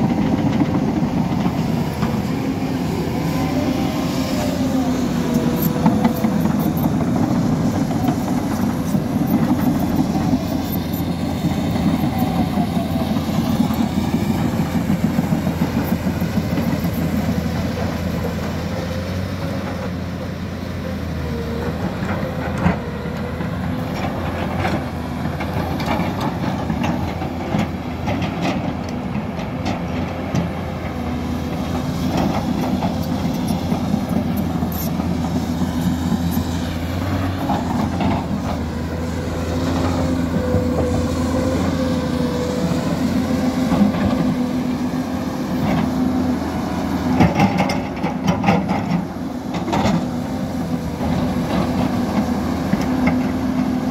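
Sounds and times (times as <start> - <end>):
clanks and rattles of steel tracks: 0.0 - 53.9
excavator diesel engine running: 0.0 - 53.9.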